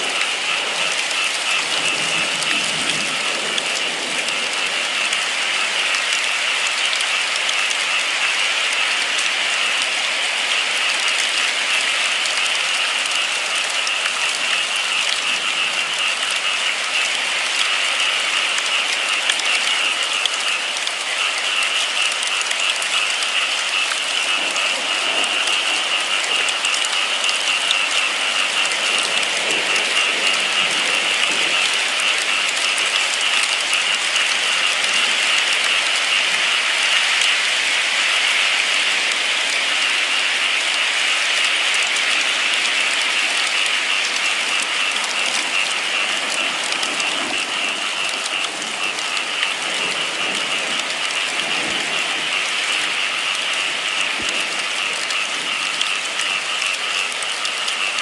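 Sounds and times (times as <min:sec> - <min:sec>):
heavy rain patter: 0:00.0 - 0:58.0.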